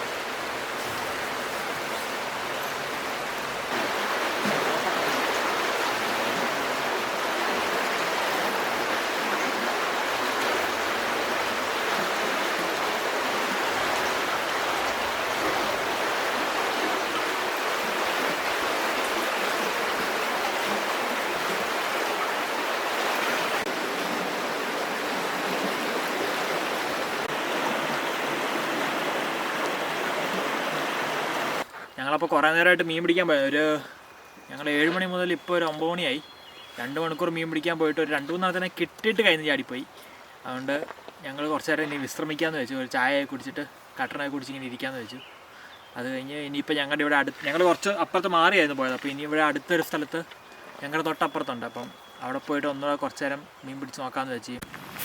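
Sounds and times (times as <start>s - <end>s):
flowing water rushing: 0.0s - 31.7s, 32.3s - 55.0s.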